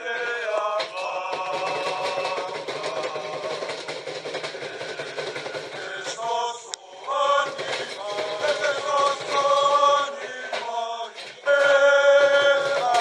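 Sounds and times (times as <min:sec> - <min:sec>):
men singing a hymn in harmony: 0:00.0 - 0:13.0.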